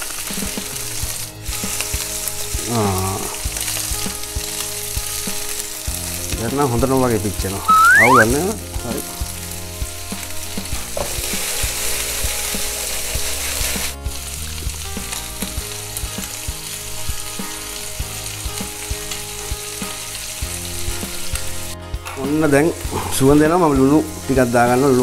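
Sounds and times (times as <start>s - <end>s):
prawns sizzling in hot oil: 0.0s - 8.0s, 8.6s - 23.0s, 23.6s - 25.0s.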